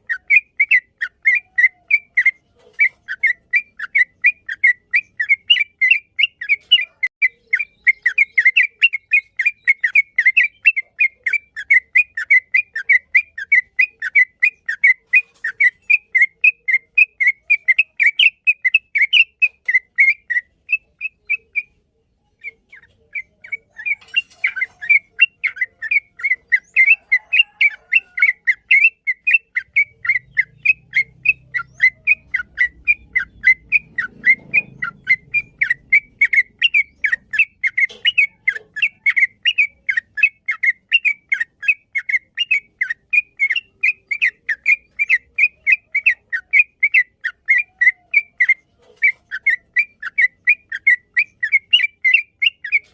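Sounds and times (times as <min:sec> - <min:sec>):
bird singing whistled chirps: 0:00.0 - 0:52.9.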